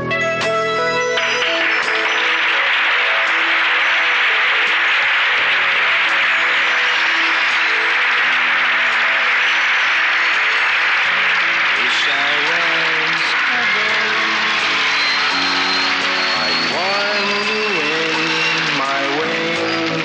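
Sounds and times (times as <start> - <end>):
band music: 0.0 - 20.0
audience applauding: 1.1 - 20.0.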